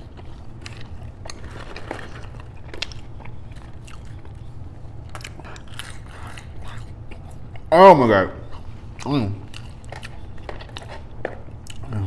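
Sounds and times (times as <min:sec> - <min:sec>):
close chewing and wet mouth sounds: 0:00.0 - 0:07.8, 0:08.4 - 0:12.0
steady low hum: 0:00.0 - 0:12.0.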